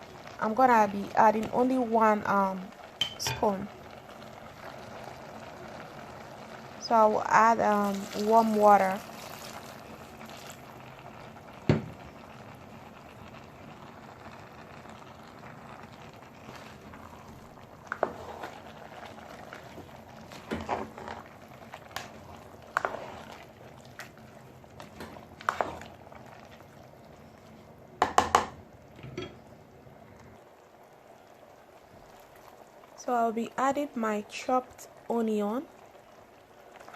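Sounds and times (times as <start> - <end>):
porridge bubbling in a pot: 0.0 - 36.9.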